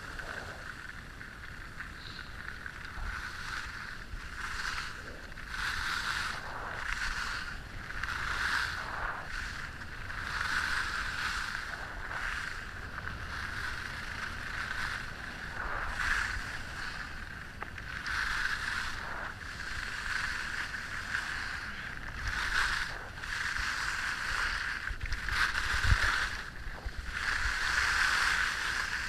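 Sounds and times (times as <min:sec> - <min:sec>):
skis scraping over snow: 0:00.0 - 0:29.0
wind rumble on microphone: 0:00.0 - 0:29.0.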